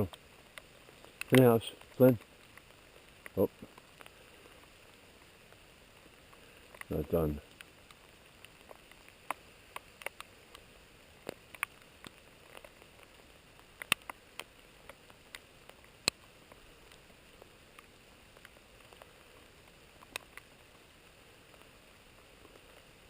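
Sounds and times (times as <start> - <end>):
light rain hiss: 0.0 - 23.0
raindrops ticking and tapping: 0.0 - 23.0.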